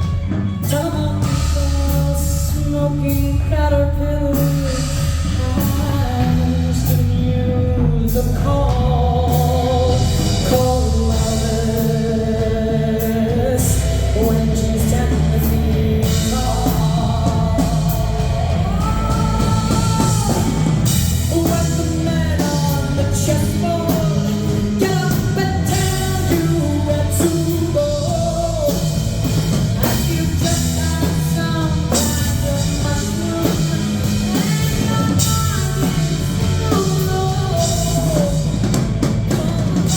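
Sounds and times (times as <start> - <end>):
live rock band playing: 0.0 - 39.9
woman singing: 0.0 - 39.9.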